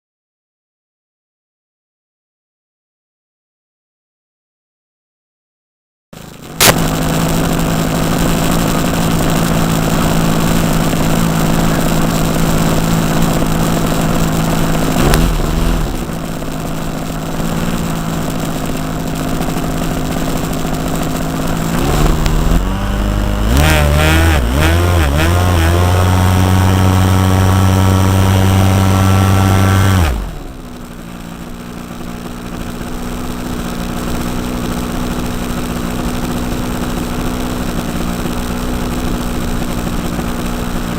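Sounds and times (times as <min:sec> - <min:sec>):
model airplane engine running: 0:06.2 - 0:40.9.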